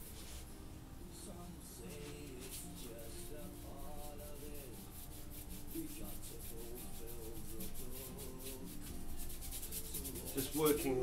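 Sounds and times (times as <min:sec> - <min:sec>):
soft background music: 0:00.0 - 0:11.0
paintbrush scrubbing on wall: 0:01.9 - 0:11.0.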